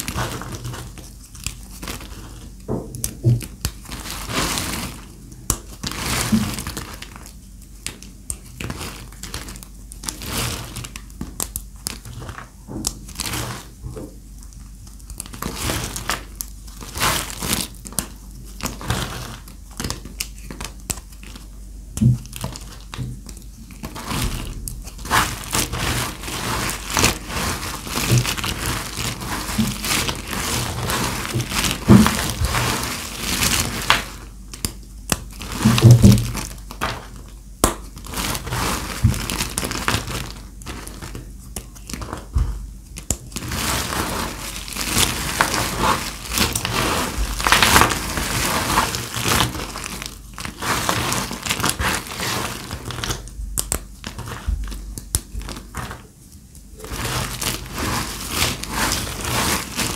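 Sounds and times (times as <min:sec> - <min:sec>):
dry soap crunching: 0:00.0 - 0:59.9.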